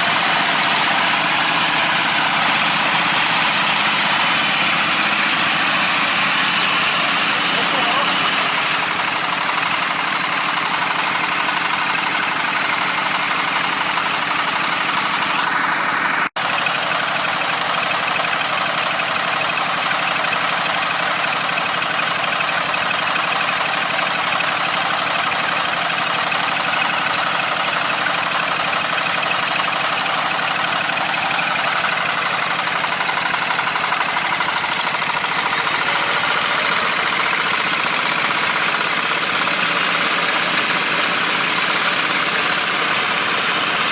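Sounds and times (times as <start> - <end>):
farm machine engine running: 0.0 - 43.9.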